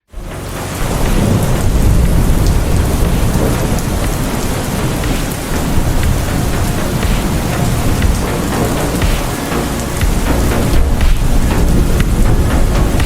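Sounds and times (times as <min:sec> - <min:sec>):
heavy rain: 0:00.1 - 0:13.0
low thunder rumble: 0:00.2 - 0:13.0.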